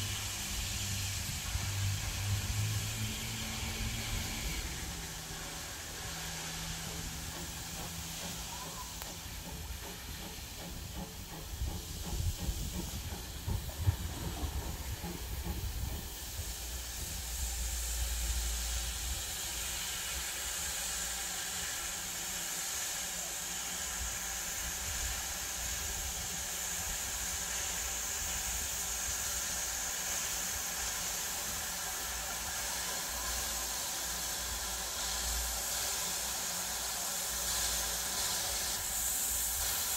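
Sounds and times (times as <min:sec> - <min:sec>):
steam engine hissing: 0:00.0 - 0:39.9.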